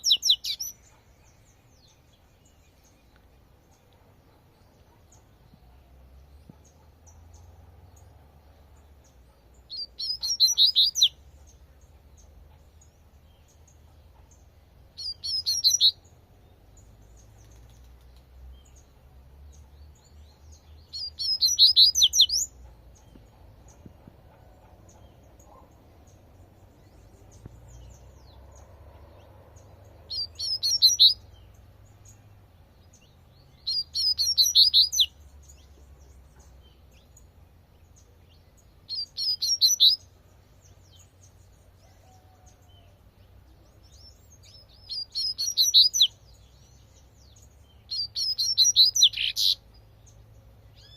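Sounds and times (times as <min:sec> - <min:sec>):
bird singing high chirps: 0:00.0 - 0:50.9.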